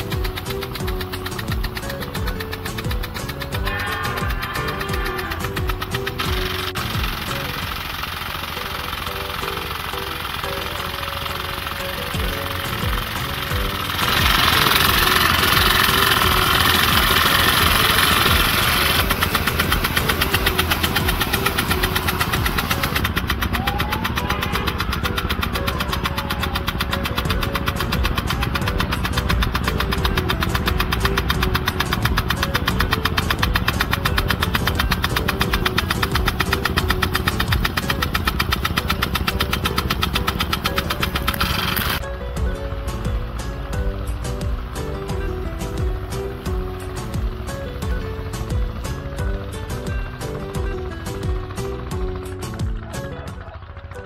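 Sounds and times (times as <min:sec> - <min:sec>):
sprinkler spraying water hiss: 0:00.0 - 0:23.7, 0:24.6 - 0:42.0, 0:42.7 - 0:51.9
machine pulsing with low rumble: 0:00.0 - 0:54.0.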